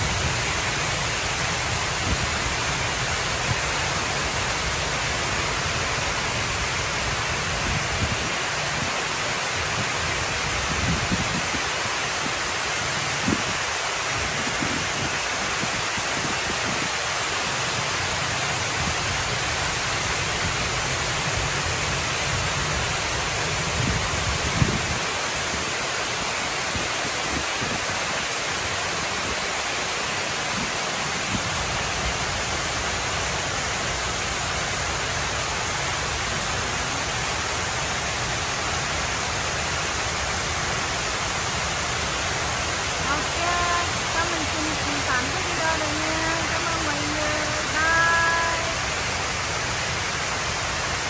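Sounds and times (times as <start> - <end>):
fountain water splashing into basin: 0.0 - 51.0.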